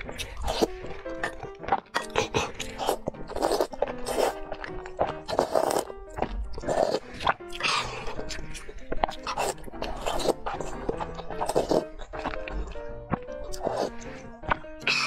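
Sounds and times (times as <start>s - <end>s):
background music: 0.0s - 15.0s
slurping and chewing noodles: 0.0s - 15.0s.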